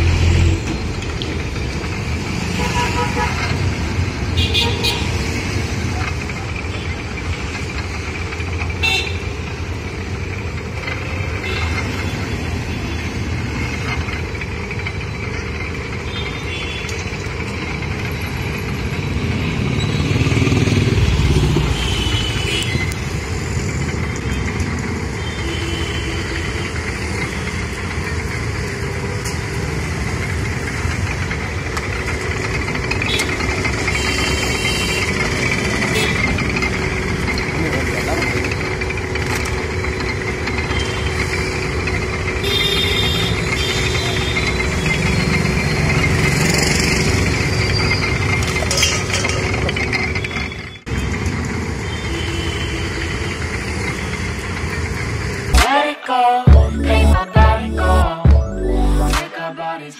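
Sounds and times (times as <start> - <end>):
street traffic: 0.0 - 59.9
sugarcane juice crusher running: 0.1 - 55.6.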